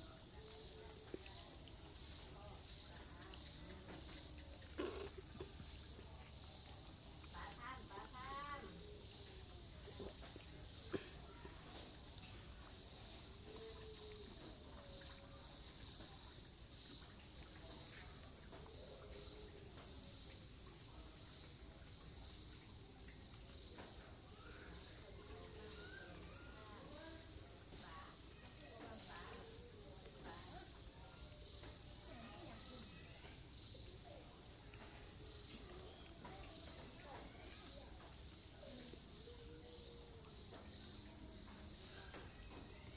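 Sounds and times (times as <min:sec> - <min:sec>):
insect chorus trilling: 0:00.2 - 0:42.9.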